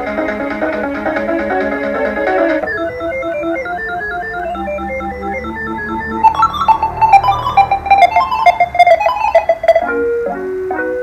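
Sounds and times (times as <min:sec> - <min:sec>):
organ-like keyboard melody: 0:00.0 - 0:11.0.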